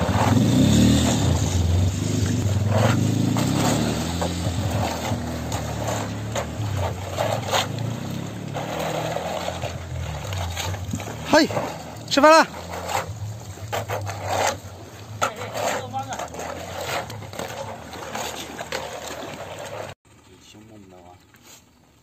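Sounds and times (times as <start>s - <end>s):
engine droning: 0.0s - 22.0s.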